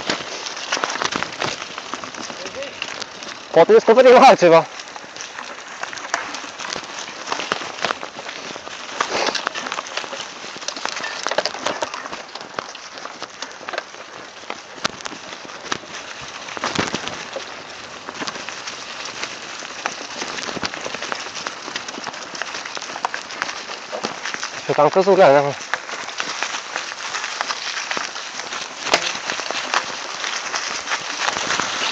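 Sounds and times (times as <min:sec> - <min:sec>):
bike knocking over bumps: 0:00.0 - 0:31.9
bike tyres rolling over leaves: 0:00.0 - 0:31.9.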